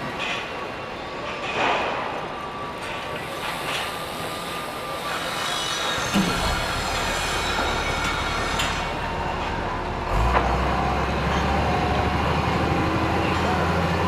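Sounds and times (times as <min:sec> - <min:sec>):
heavy truck engine rumble: 0:00.0 - 0:14.0.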